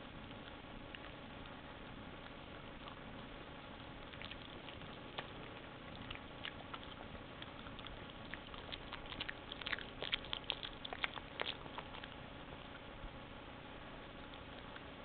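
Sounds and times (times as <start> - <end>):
dog chewing and lip smacking: 0.0 - 15.0.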